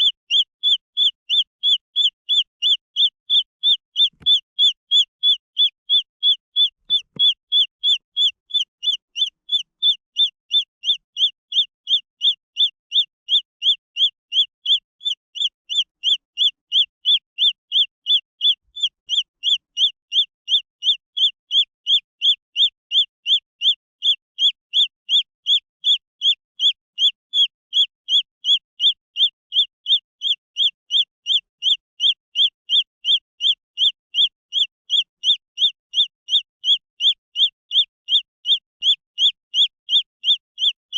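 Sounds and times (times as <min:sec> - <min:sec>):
chick peeping: 0:00.0 - 0:40.8.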